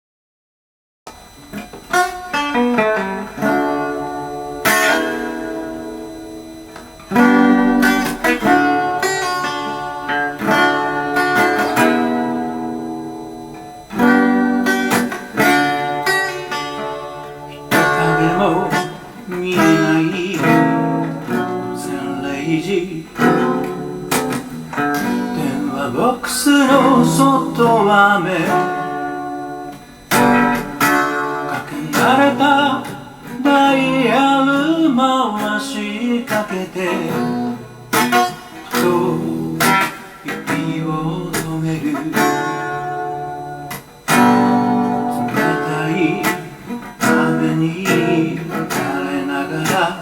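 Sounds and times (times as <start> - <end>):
guitar chords plucked and strummed: 1.1 - 50.0.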